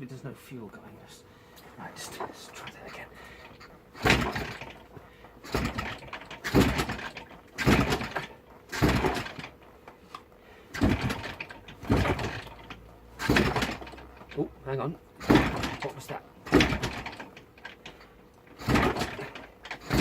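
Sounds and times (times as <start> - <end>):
engine turning over: 2.0 - 20.0
motorcycle kick-start: 2.0 - 20.0.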